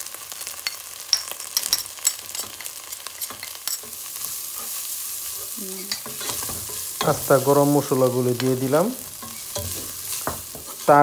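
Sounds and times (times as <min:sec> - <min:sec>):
onions sizzling in oil: 0:00.0 - 0:11.0
wooden spatula stirring: 0:01.8 - 0:11.0.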